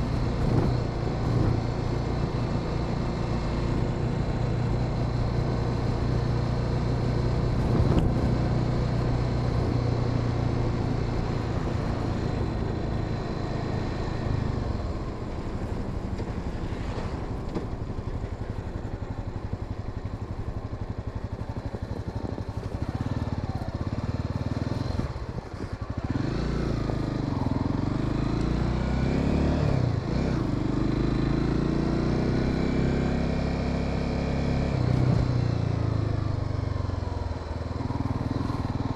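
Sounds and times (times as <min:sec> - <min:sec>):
motorcycle engine revving: 0:00.0 - 0:16.2, 0:20.2 - 0:38.9.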